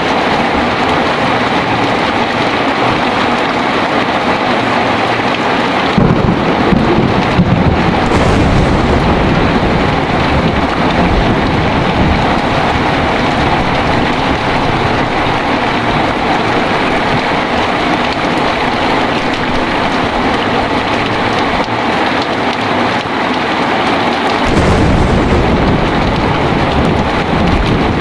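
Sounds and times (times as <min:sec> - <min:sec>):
thunder rumbling: 0:00.0 - 0:22.2, 0:24.4 - 0:28.0
heavy rain: 0:00.0 - 0:28.0.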